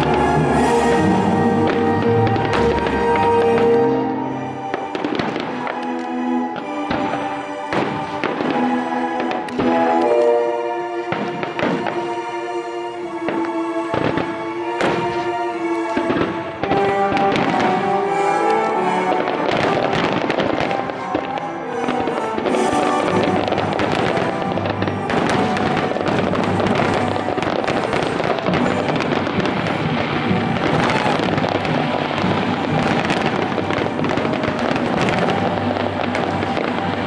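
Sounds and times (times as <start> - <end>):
fireworks bursting: 0.0 - 37.0
music playing: 0.0 - 37.0.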